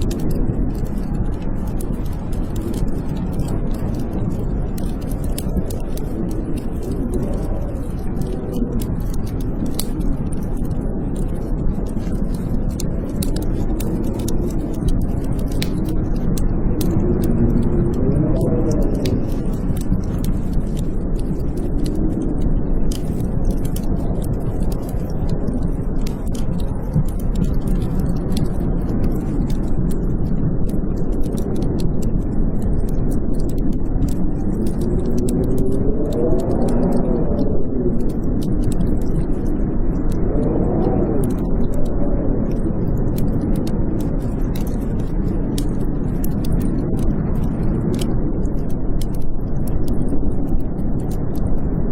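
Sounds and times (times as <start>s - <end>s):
blizzard wind howling: 0.0s - 51.9s
wood fire crackling: 0.0s - 51.9s.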